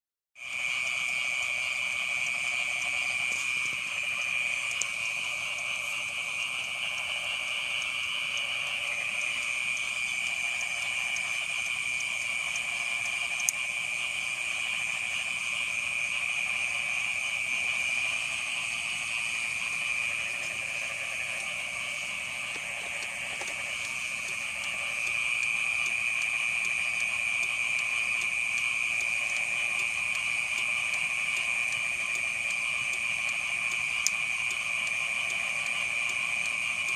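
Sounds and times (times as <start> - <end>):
frogs trilling: 0.4 - 36.9.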